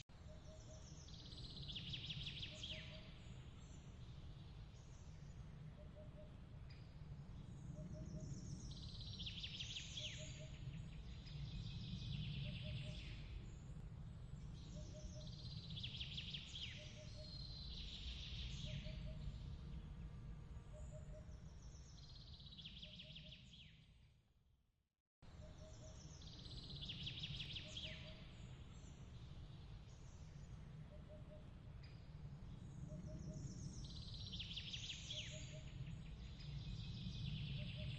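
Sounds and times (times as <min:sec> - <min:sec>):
low rumble of breeze: 0:00.0 - 0:24.2, 0:25.2 - 0:37.9.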